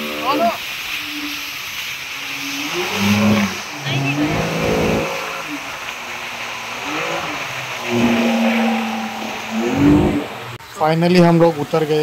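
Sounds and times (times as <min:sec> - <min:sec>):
speedboat engine: 0:00.0 - 0:10.6
rushing water and spray: 0:00.0 - 0:12.0.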